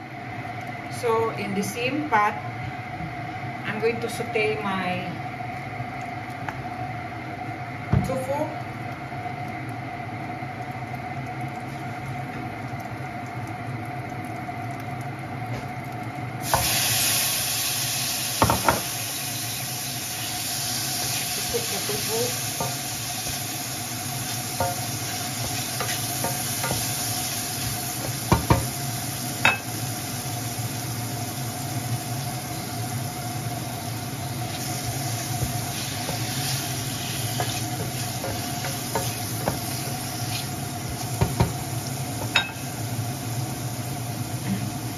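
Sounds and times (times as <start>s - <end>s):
tofu sizzling in oil: 8.6s - 44.9s.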